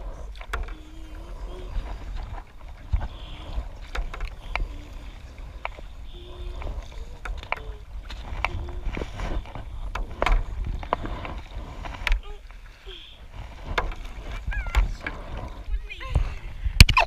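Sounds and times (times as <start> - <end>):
paddle splashing water: 0.0 - 17.0
wind rumble on microphone: 0.0 - 17.0.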